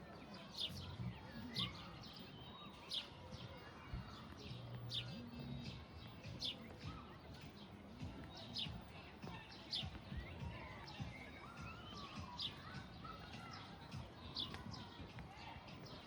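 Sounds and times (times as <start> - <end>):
faint low background murmur: 0.0 - 16.0
small birds chirping: 0.0 - 16.0.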